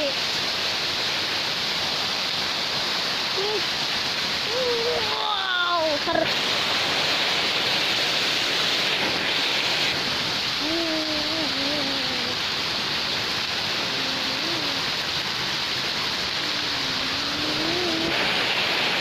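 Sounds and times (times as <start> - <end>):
heavy rain on tiles: 0.0 - 19.0.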